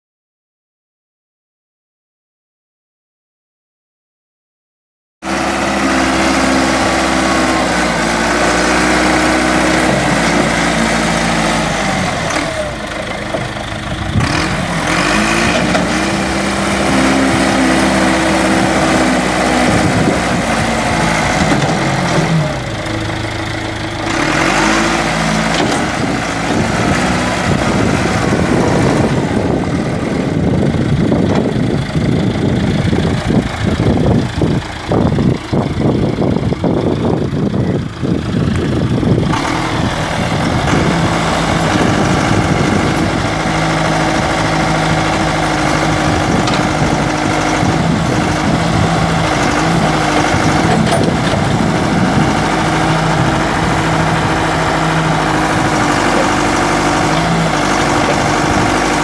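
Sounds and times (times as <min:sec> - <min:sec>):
backhoe diesel engine running: 0:05.2 - 0:59.0.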